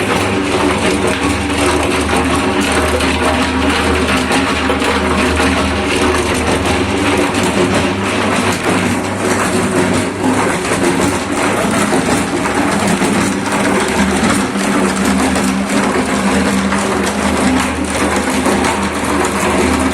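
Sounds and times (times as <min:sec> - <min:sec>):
concrete mixer motor hum: 0:00.0 - 0:19.9
drum rattling: 0:00.0 - 0:19.9.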